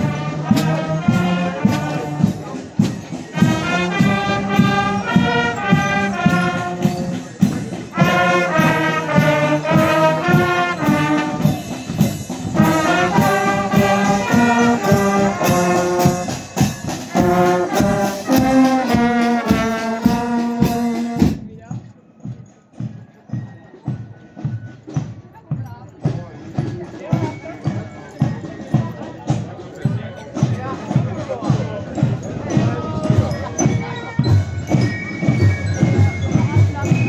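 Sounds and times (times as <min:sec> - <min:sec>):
bass drum and cymbals beat: 0:00.0 - 0:37.0.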